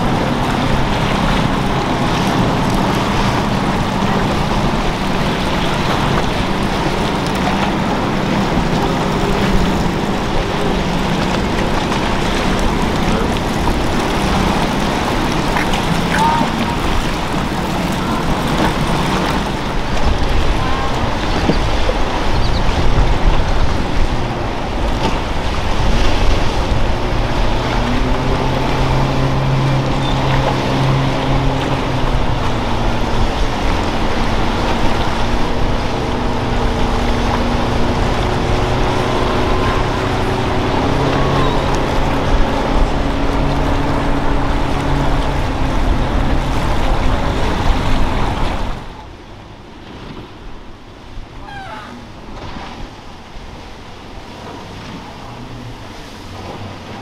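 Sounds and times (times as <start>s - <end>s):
wind noise on microphone: 0.0s - 49.2s
motorboat engine droning: 0.0s - 57.0s
surf and water rushing: 0.0s - 57.0s.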